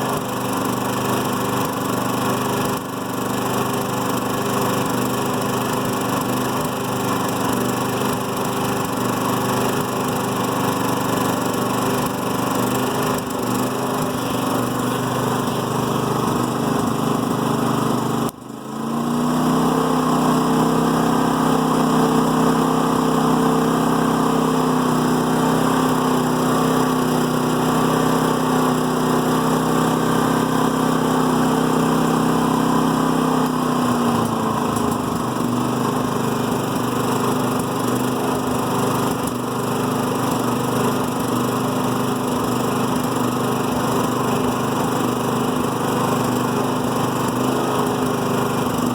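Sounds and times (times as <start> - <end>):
portable generator engine running: 0.0 - 48.9.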